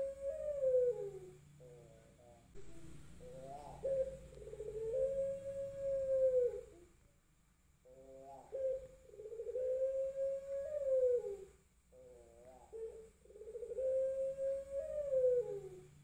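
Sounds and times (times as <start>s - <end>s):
dove cooing: 0.0s - 7.0s, 7.8s - 16.0s.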